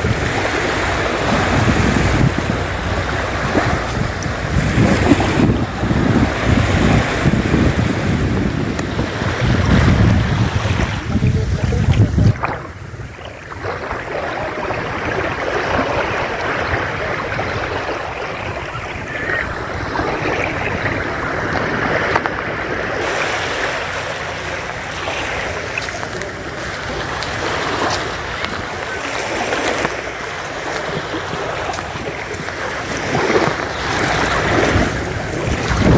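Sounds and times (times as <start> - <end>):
sea waves washing onto beach: 0.0 - 35.9
wind buffeting microphone: 0.0 - 35.9.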